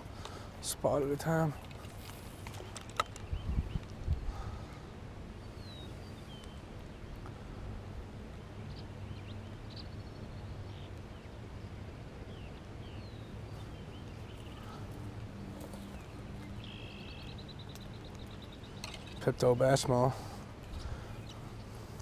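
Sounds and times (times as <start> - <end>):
birds chirping: 0.0 - 22.0
low background hum: 0.0 - 22.0.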